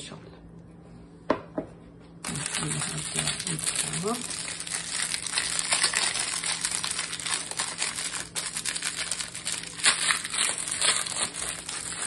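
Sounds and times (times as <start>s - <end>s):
pastry sheets and plastic crinkling: 2.2s - 12.0s.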